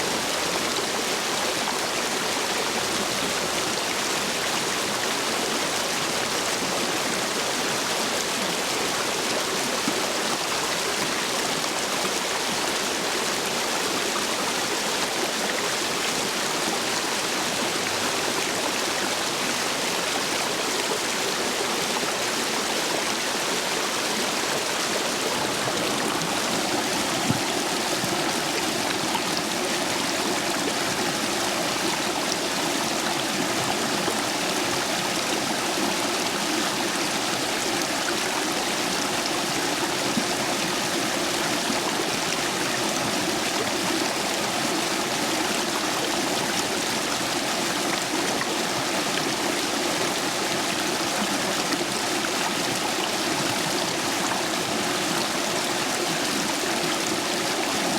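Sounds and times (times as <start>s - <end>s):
stream rushing over stones: 0.0s - 57.9s.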